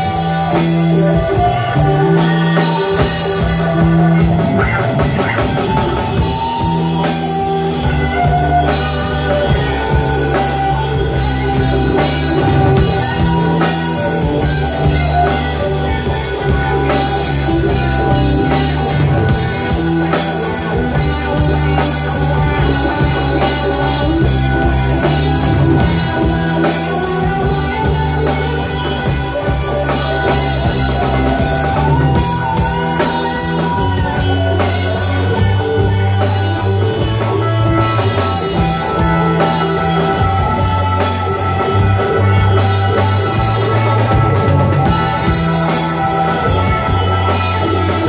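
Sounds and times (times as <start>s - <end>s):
bass guitar: 0.0s - 48.0s
drum kit: 0.0s - 48.0s
electric guitar: 0.0s - 48.0s
keyboard: 0.0s - 48.0s.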